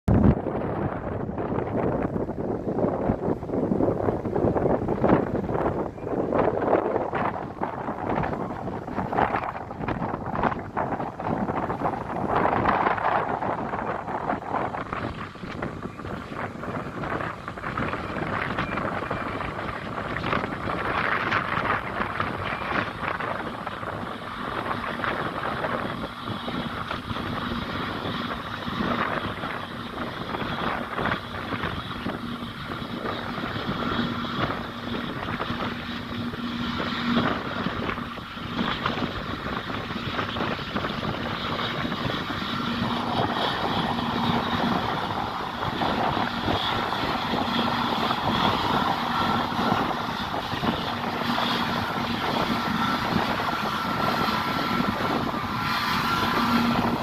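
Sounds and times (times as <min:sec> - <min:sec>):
airliner engine rumble and whine: 0:00.0 - 0:57.0.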